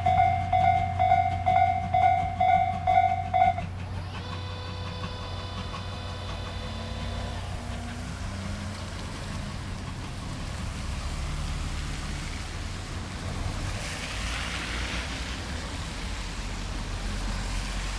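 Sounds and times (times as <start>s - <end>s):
steam train rumbling past: 0.0s - 17.9s.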